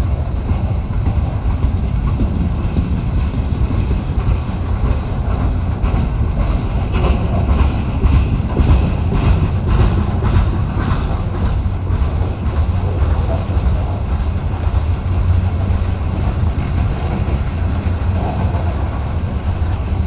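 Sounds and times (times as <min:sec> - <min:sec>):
freight train rumble: 0:00.0 - 0:20.0
wheels clacking over rail joints: 0:00.0 - 0:20.0.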